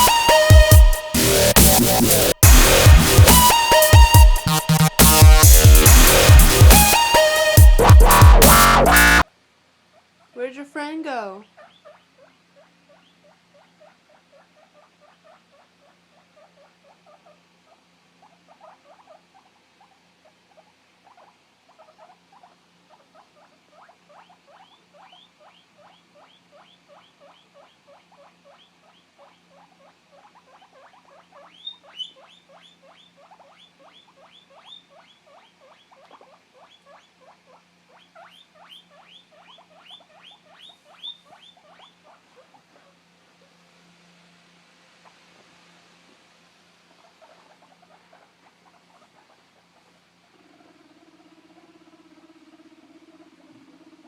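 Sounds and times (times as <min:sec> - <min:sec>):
guinea pig squeaking: 0:00.0 - 0:09.3, 0:11.4 - 0:43.6, 0:46.8 - 0:54.0.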